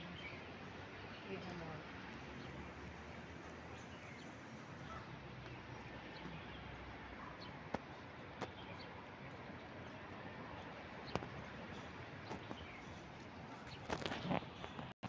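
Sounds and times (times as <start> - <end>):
outdoor urban terrace ambience: 0.0 - 15.0.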